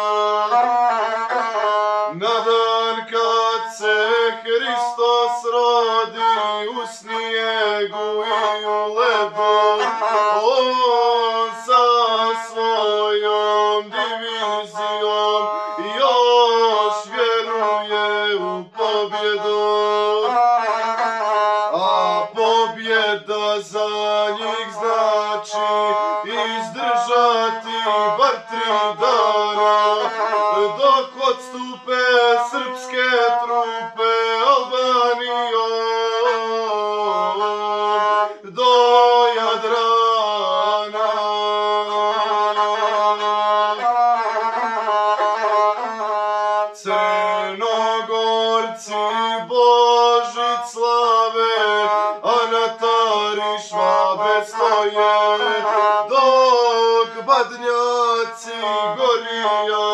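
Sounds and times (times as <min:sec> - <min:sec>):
bowed single-string fiddle: 0:00.0 - 0:59.9
man singing: 0:00.0 - 0:59.9.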